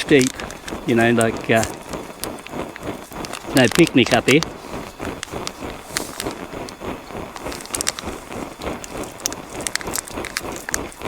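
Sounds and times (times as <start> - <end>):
burning twigs crackling: 0.0 - 11.0
camp stove puffing rhythmically: 0.0 - 11.0.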